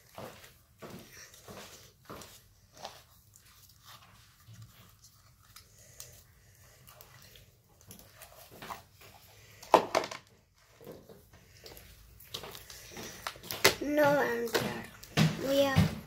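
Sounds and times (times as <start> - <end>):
slime squelching: 0.0 - 16.0.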